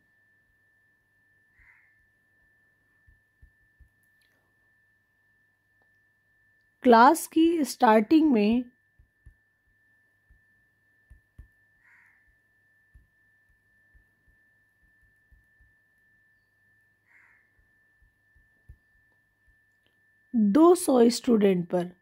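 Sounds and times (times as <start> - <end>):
thin high-pitched whine: 0.0 - 22.0.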